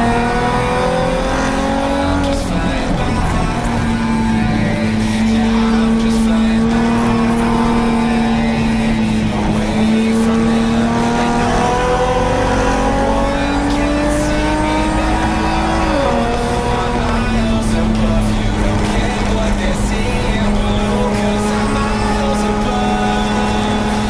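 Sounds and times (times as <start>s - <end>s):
race car engine pulling: 0.0s - 24.0s.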